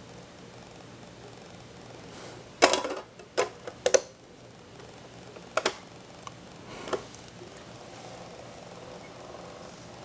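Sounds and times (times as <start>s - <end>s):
low steady background noise: 0.0s - 10.0s.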